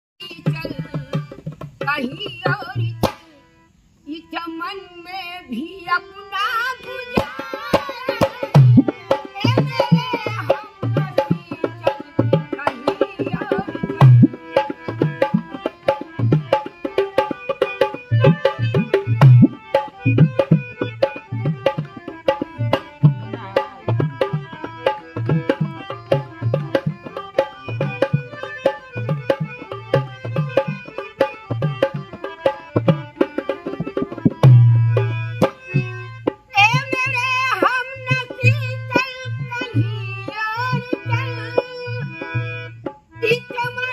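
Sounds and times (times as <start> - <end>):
dholak drum rhythm: 0.2 - 3.6, 6.3 - 43.9
harmonium sustained notes: 2.0 - 43.9.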